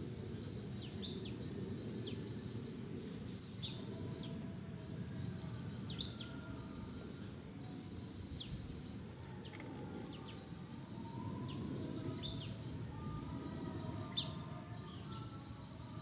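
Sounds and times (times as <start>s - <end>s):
songbirds trilling: 0.0s - 16.0s.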